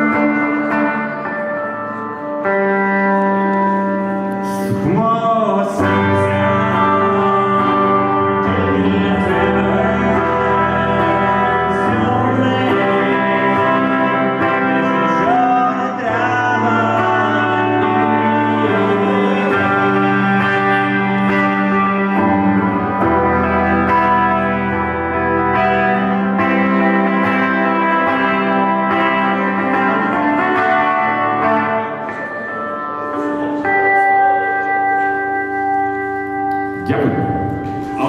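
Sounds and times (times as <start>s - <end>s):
live band instrumental: 0.0s - 38.0s.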